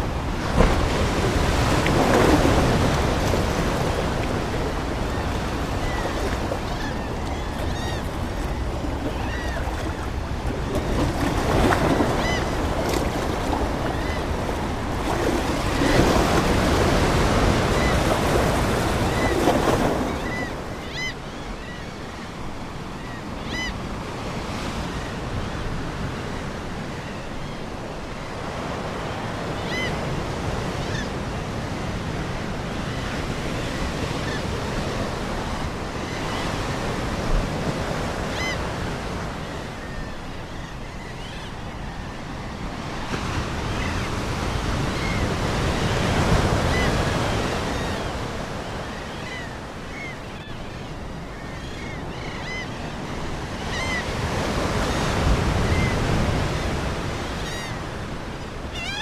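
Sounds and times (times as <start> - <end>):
ocean surf washing ashore: 0.0 - 59.0.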